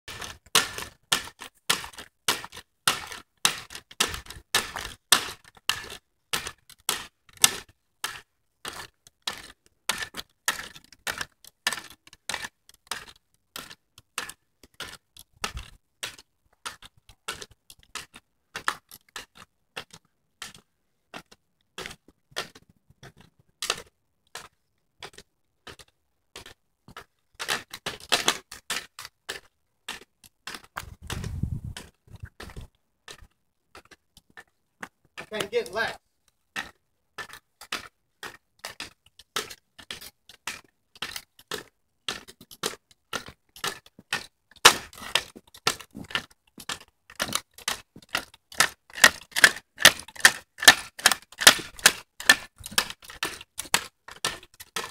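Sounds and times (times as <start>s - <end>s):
stilts clacking on asphalt: 0.1s - 54.9s.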